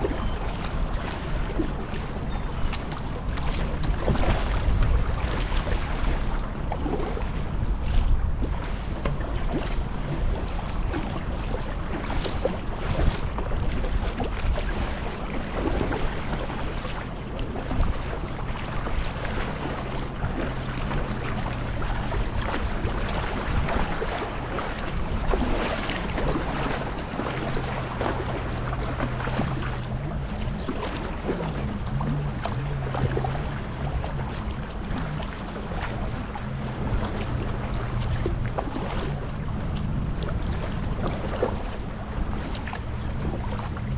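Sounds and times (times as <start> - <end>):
low steady hum: 0.0 - 43.9
paddle splashing: 0.0 - 43.9
water washing along hull: 0.0 - 43.9
wind buffeting microphone: 0.0 - 43.9.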